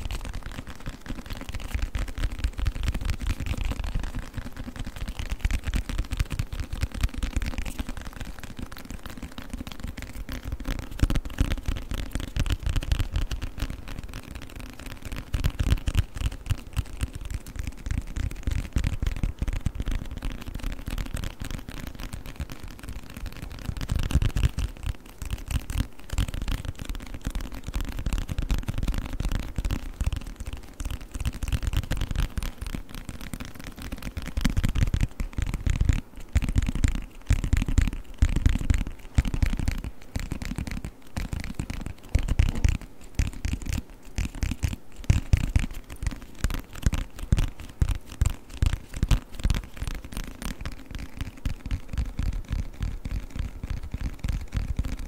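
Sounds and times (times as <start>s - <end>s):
fast tapping on a book: 0.0s - 55.0s.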